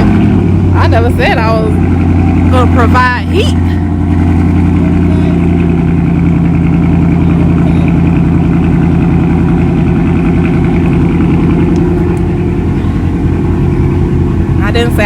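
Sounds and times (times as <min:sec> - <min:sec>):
car engine idling loudly: 0:00.0 - 0:15.0.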